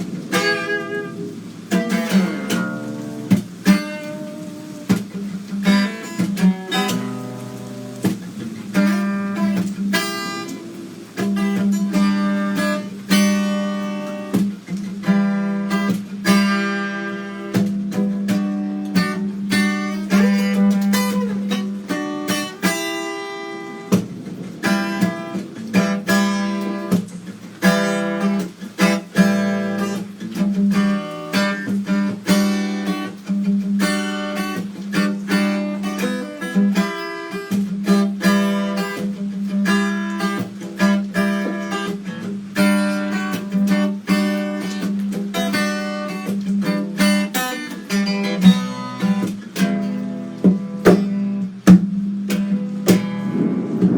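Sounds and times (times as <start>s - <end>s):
guitar strummed and plucked: 0.0s - 53.9s.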